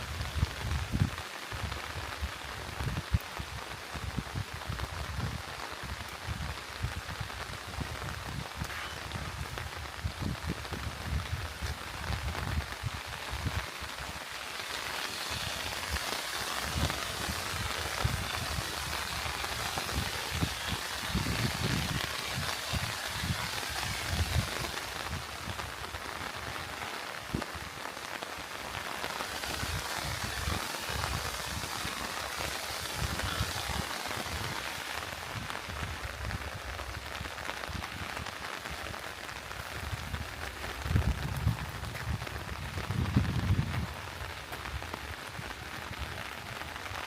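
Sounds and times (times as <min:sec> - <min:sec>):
raindrops ticking: 0:00.0 - 0:47.0
steady rain hissing: 0:00.0 - 0:47.0.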